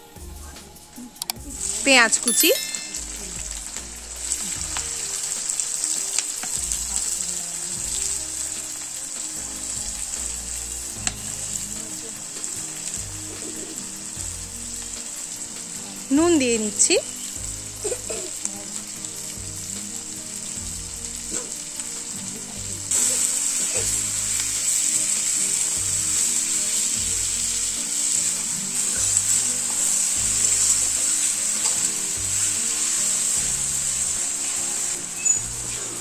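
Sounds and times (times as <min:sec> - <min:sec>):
onion sizzling in oil: 0:00.0 - 0:36.0.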